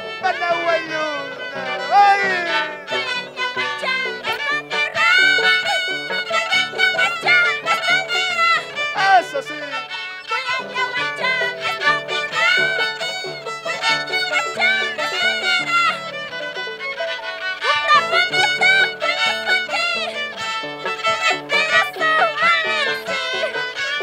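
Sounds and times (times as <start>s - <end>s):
violin melody with vibrato: 0.0s - 24.0s.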